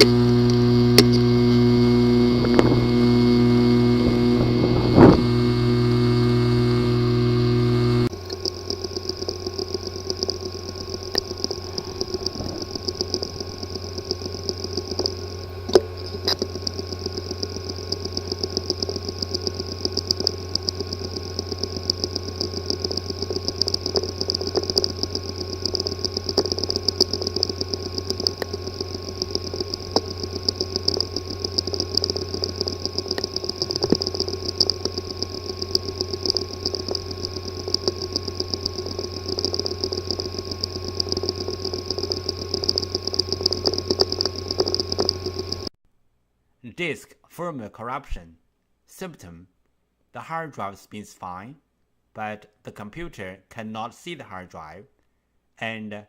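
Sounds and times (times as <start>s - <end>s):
hard drive clicking: 0.0s - 45.7s
hard drive humming and ticking: 0.0s - 45.8s.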